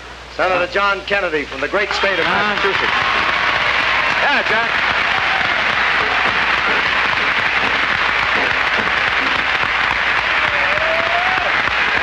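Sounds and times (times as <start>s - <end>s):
crowd applause: 1.8s - 12.0s.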